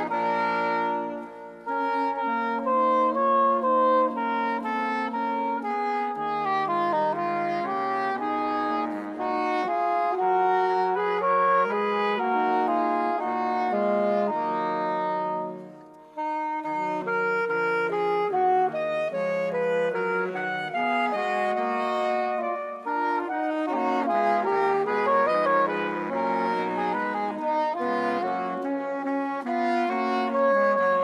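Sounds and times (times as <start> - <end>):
wind band playing melody: 0.0 - 31.0.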